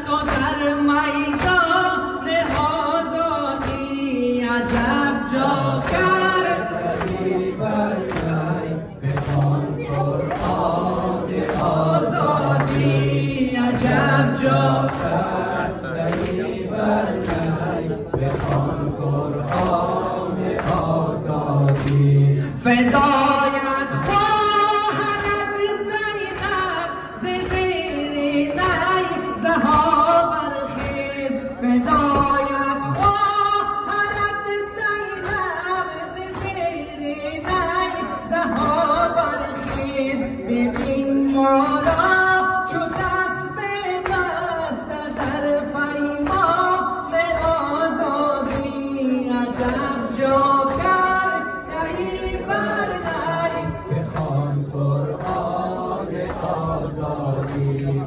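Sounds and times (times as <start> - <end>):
group of voices singing: 0.0 - 58.0
lead voice singing lament: 0.0 - 58.0.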